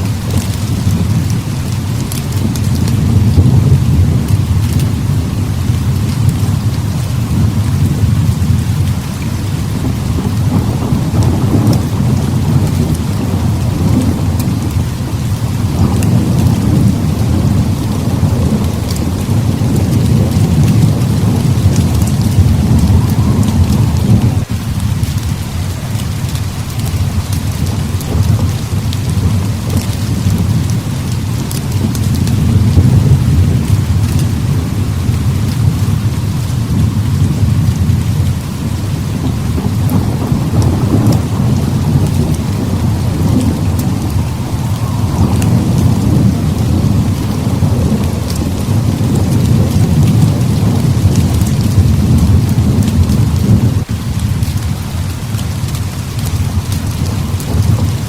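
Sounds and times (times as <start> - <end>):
heavy rain pouring: 0.0 - 58.0
rolling thunder rumble: 0.0 - 58.0.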